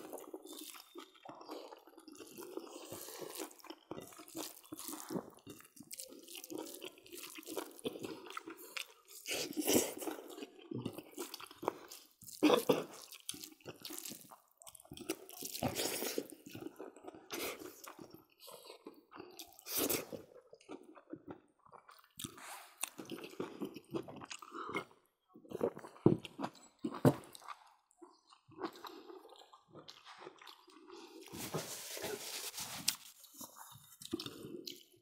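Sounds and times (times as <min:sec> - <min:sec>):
people chewing food: 0:00.0 - 0:35.0.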